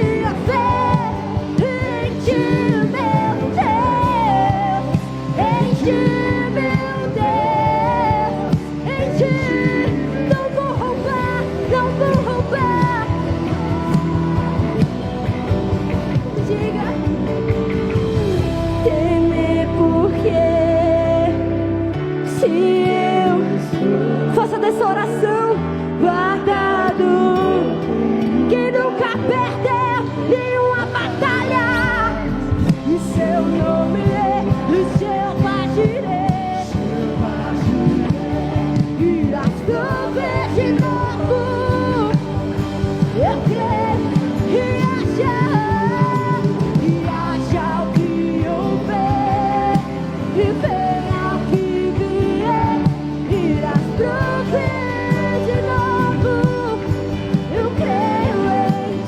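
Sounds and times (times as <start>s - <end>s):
band accompaniment with bass: 0.0s - 59.0s.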